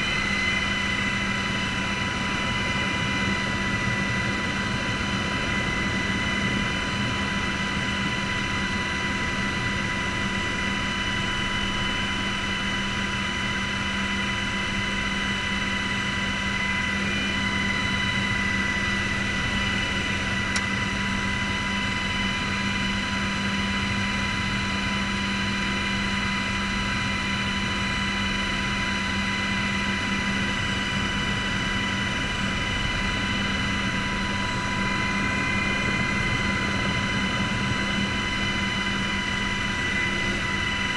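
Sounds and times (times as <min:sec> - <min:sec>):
helicopter running inside cockpit: 0:00.0 - 0:40.9.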